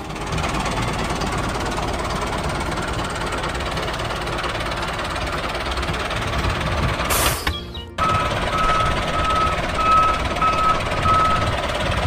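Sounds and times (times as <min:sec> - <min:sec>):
model tractor engine rattling: 0:00.0 - 0:07.1, 0:08.0 - 0:12.0.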